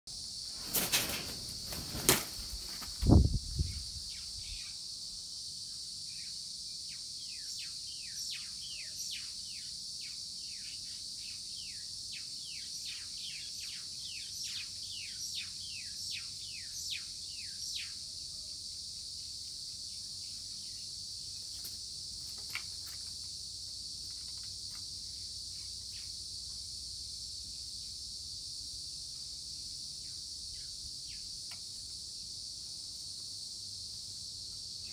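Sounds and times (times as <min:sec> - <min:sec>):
high-pitched insect chorus: 0:00.1 - 0:34.9.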